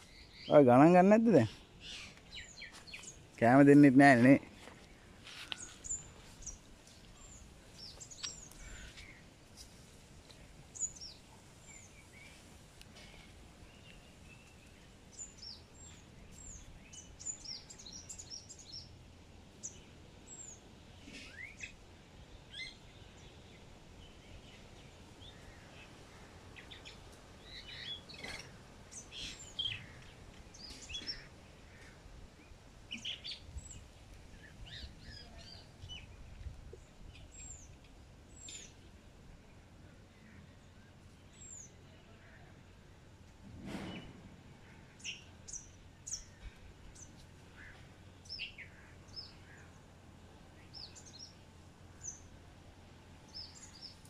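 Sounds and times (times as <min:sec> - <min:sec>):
faint low background noise: 0:00.0 - 0:54.0.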